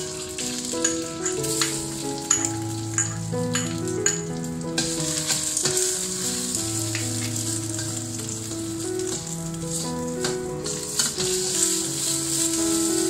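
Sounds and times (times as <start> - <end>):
background music with sustained notes: 0.0 - 13.0
food sizzling in hot oil: 0.0 - 13.0.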